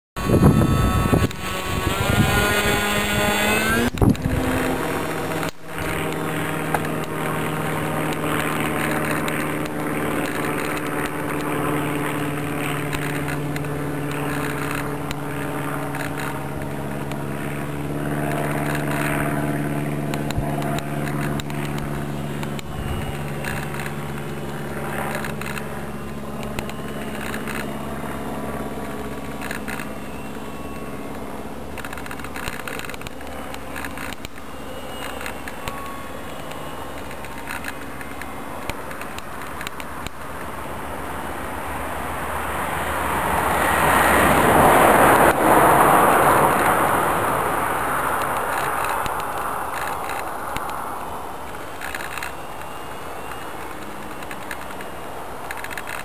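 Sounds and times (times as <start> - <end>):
model plane motor whine: 0.2 - 56.0.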